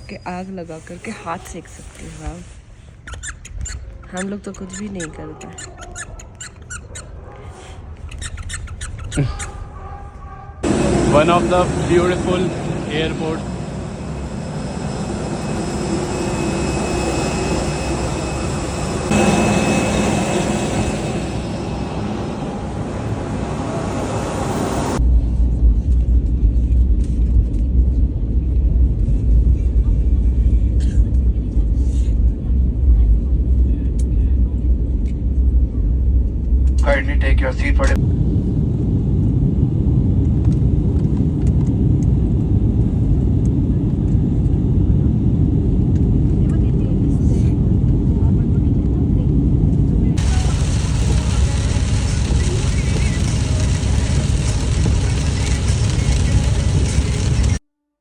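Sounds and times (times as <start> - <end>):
faint engine whines: 10.6 - 57.6
jet engines rushing: 10.6 - 57.6.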